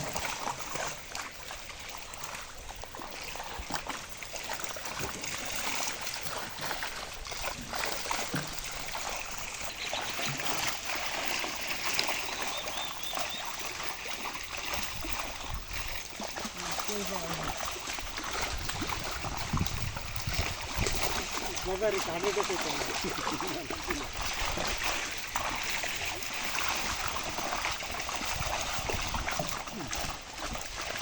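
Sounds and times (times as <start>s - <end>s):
pond water splashing and trickling: 0.0s - 31.0s.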